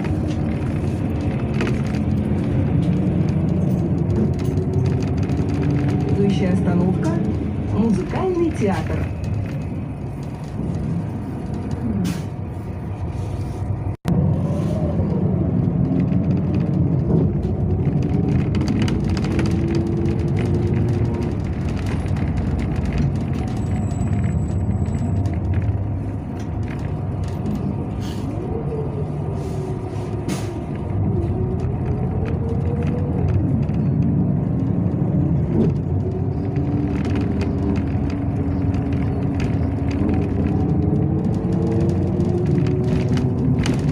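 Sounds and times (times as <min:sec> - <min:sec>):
bus engine: 0:00.0 - 0:43.9
road noise: 0:00.0 - 0:43.9.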